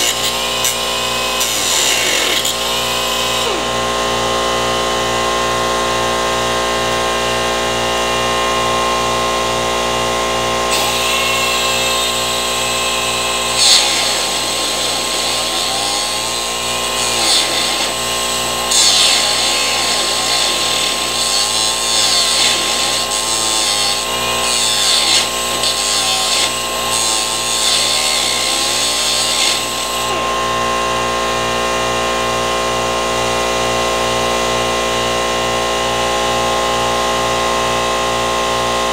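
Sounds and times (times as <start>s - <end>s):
power tool grinding metal: 0.0s - 32.0s.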